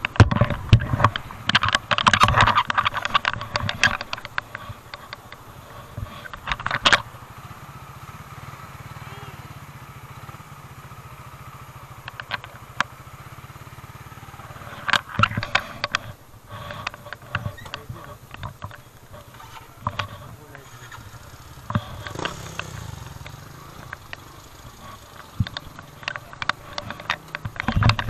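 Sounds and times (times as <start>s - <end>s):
sharp knocks and clatters: 0.0s - 7.2s, 11.6s - 28.0s
motorcycle engine idling: 0.0s - 28.0s.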